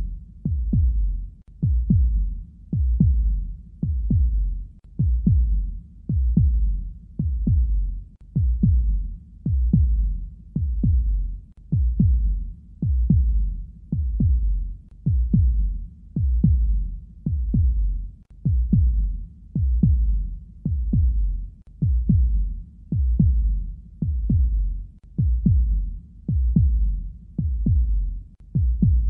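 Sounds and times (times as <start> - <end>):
heartbeat thumps: 0.0 - 29.0.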